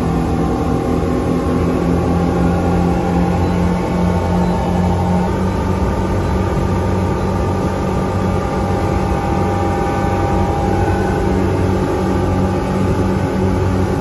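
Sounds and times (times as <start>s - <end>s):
outboard motors running at high revs: 0.0s - 14.0s
rush of wind and water: 0.0s - 14.0s.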